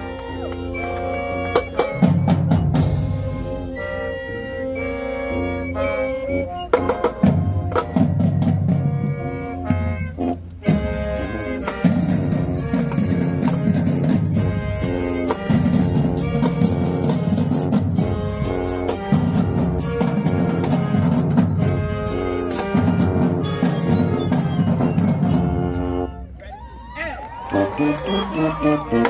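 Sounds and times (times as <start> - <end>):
marching band playing: 0.0 - 29.0.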